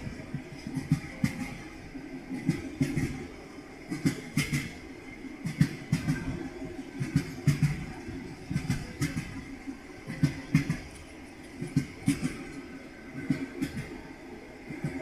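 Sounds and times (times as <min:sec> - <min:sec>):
low train rumble: 0:00.0 - 0:15.0.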